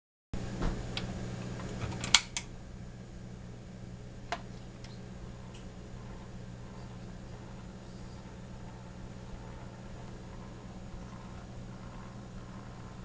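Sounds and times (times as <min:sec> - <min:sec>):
steady low hum: 0:00.4 - 0:13.0.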